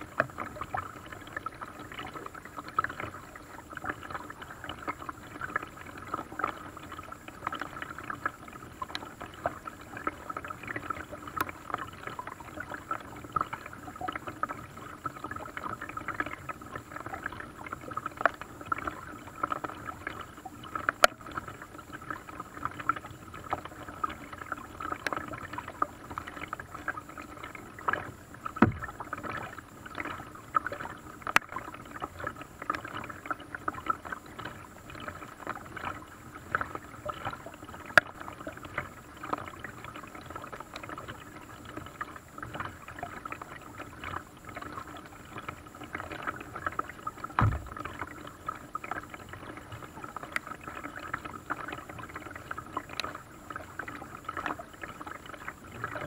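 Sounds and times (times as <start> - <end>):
water splashing around boat: 0.0 - 56.0.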